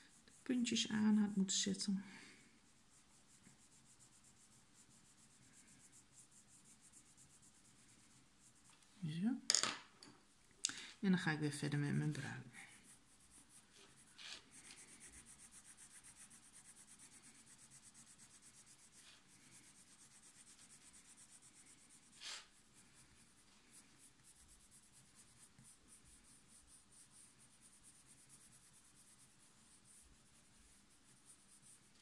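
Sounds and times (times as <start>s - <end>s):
colored pencil scratching on paper: 0.0s - 8.9s, 11.2s - 32.0s.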